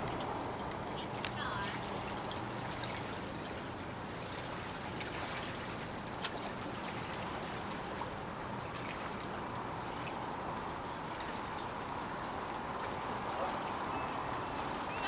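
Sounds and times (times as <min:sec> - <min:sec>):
water lapping: 0:00.0 - 0:15.0.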